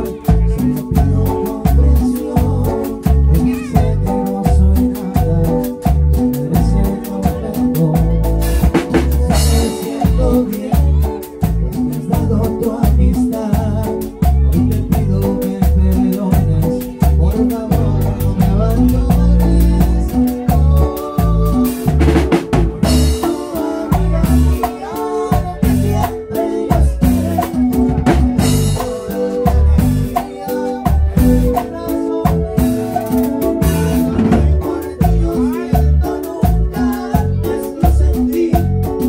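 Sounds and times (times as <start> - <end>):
drum kit beat: 0.0 - 39.0
live band playing: 0.0 - 39.0.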